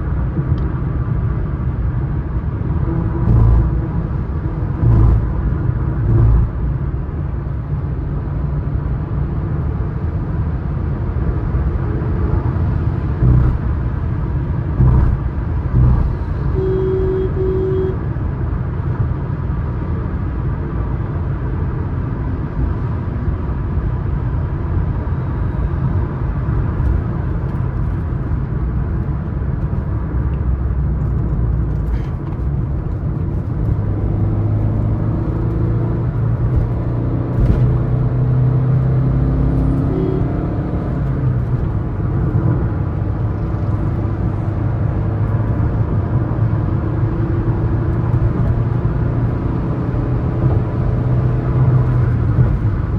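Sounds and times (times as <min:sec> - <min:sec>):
car engine hum: 0:00.0 - 0:52.9
tyre road noise: 0:00.0 - 0:52.9.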